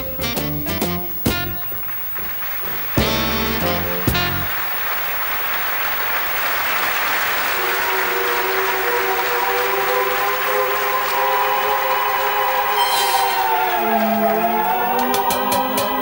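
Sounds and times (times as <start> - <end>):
audience applauding: 0.7 - 16.0.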